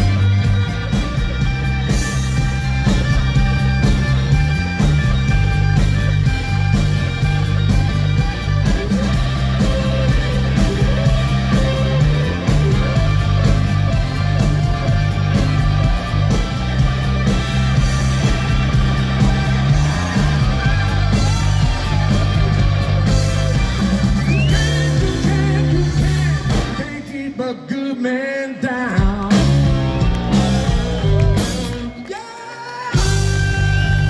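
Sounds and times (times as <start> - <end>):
electric guitar lead: 0.0 - 26.9, 29.0 - 34.0
blues-rock band playing: 0.0 - 27.4, 29.0 - 32.2, 32.9 - 34.0.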